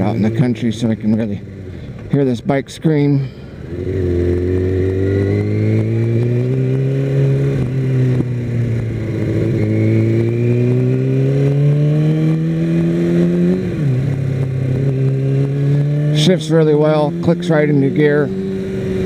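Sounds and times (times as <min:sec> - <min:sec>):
motorcycle engine accelerating: 0:03.2 - 0:19.0.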